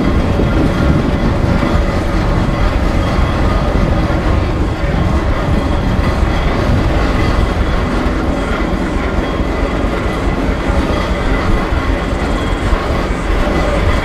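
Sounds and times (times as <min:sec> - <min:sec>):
steam engine rumbling: 0:00.0 - 0:14.0.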